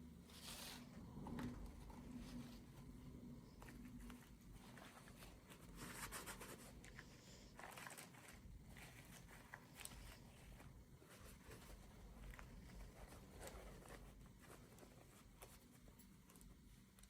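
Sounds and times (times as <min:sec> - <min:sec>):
faint rustling: 0:00.2 - 0:17.0.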